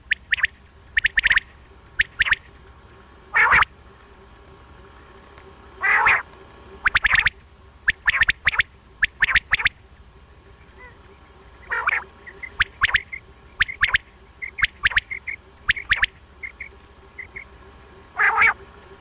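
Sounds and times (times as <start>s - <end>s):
quail calling: 0.0s - 3.8s, 5.8s - 18.8s
soft paired chirps: 0.0s - 19.0s.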